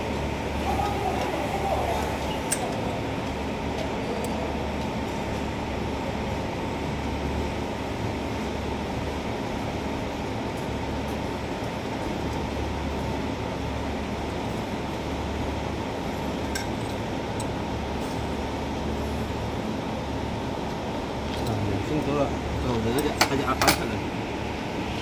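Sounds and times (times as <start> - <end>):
factory machinery hum: 0.0 - 25.0.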